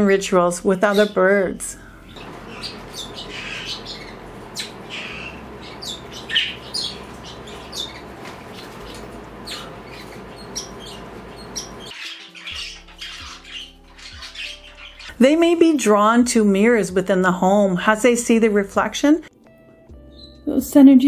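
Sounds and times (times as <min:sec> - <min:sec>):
birds chirping and squawking: 0:00.0 - 0:17.9, 0:20.1 - 0:20.4.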